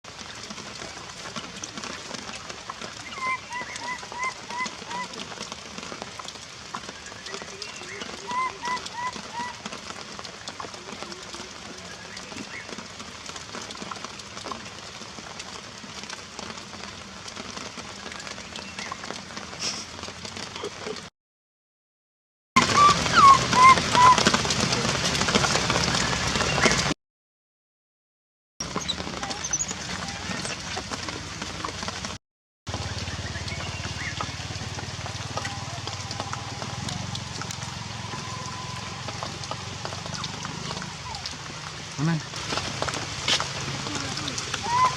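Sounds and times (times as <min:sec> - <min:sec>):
heavy rain falling: 0:00.1 - 0:21.1, 0:22.6 - 0:27.0, 0:28.6 - 0:44.9.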